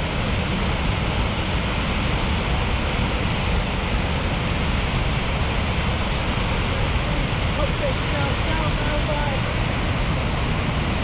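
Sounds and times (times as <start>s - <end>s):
rush of heavy water: 0.0s - 11.0s.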